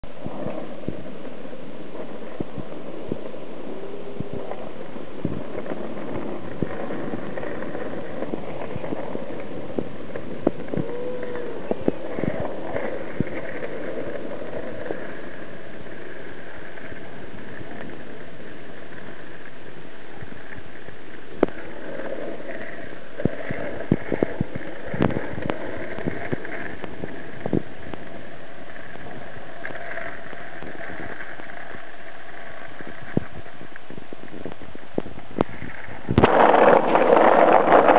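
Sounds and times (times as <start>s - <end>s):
longboard wheels rolling on asphalt: 0.0s - 37.9s.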